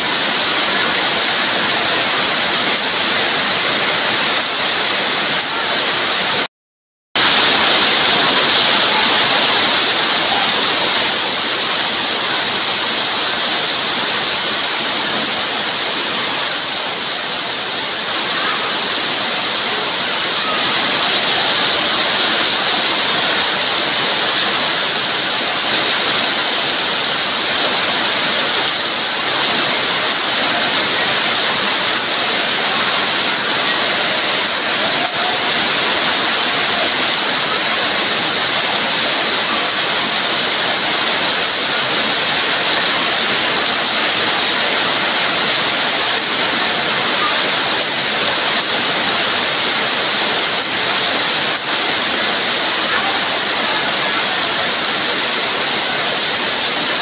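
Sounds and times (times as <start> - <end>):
heavy rain on wet ground: 0.0 - 6.5, 7.2 - 57.0.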